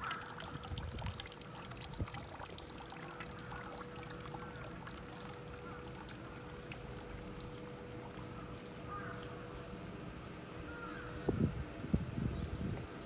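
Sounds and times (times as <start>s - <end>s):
steady thin hum: 0.0s - 13.0s.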